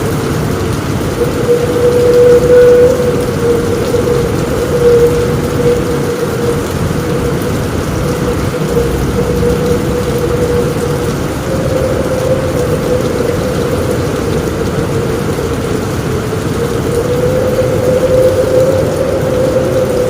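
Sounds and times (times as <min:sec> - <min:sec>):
low rumble: 0:00.0 - 0:20.0
rain on a roof: 0:00.0 - 0:20.0
faint wavering whistle-like tone: 0:01.2 - 0:20.0.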